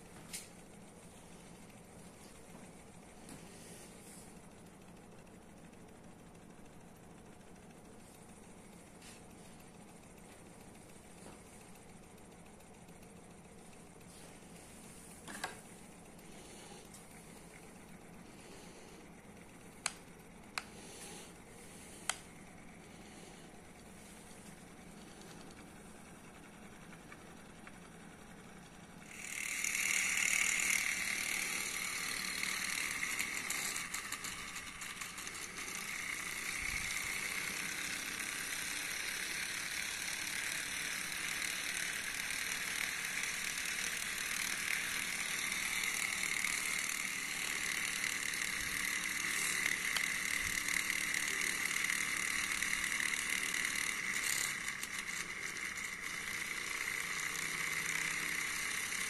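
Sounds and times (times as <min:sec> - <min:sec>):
small engine mechanical rattle: 0:00.0 - 0:59.0.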